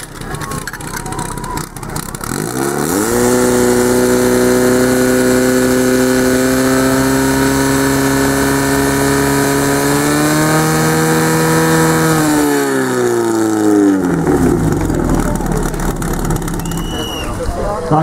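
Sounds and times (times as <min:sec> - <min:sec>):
pump engine running high revs: 0:00.0 - 0:17.5.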